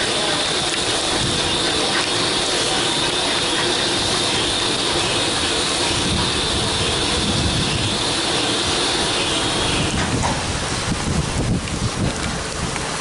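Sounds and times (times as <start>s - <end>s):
loud hiss of steam: 0.0s - 11.6s
steam locomotive moving slowly: 0.0s - 13.0s.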